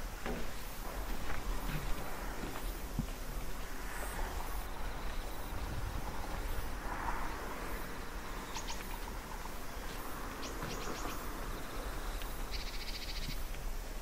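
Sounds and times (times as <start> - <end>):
outdoor rush with low rumble: 0.0 - 14.0.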